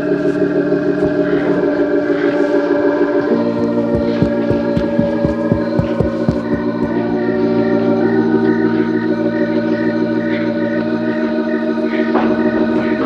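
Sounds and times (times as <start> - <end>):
sustained organ chords: 0.0 - 13.0.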